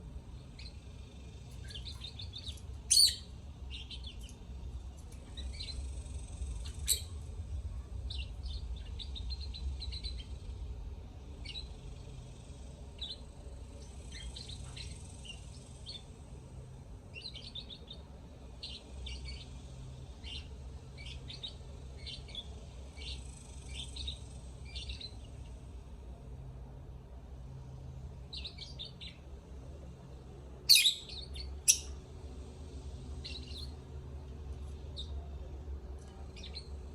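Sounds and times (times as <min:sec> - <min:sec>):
birds chirping and twittering: 0:00.0 - 0:36.9
low steady hum: 0:00.0 - 0:36.9.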